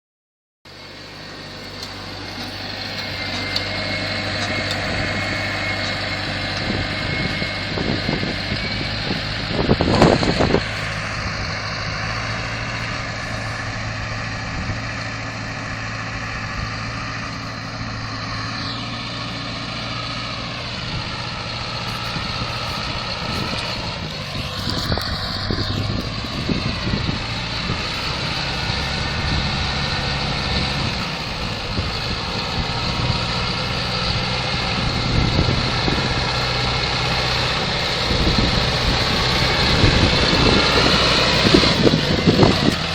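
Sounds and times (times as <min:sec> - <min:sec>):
harvester working: 0:00.7 - 0:42.9
tractor running: 0:00.7 - 0:42.9
whine sliding in pitch: 0:00.7 - 0:42.9.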